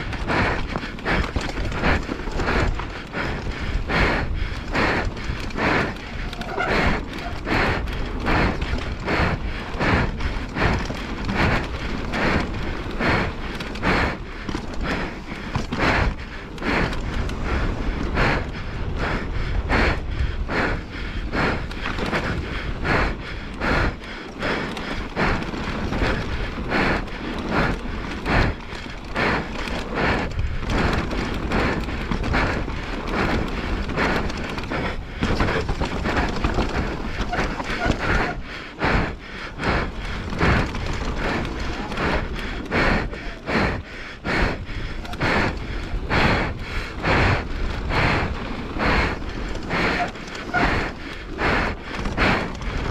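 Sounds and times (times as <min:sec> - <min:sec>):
bike rattling over bumps: 0:00.0 - 0:52.9
tyres on loose gravel: 0:00.0 - 0:52.9.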